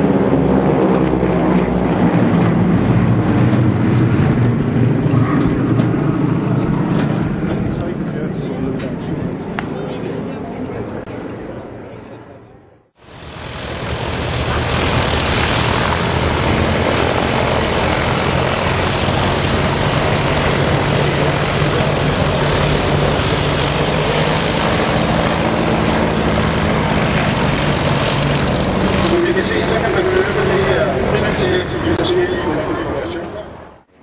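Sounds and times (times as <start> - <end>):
propeller aircraft engine droning: 0.0 - 34.0.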